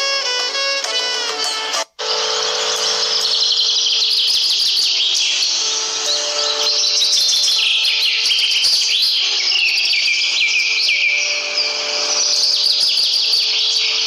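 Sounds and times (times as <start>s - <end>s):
small birds chirping: 2.1s - 14.0s.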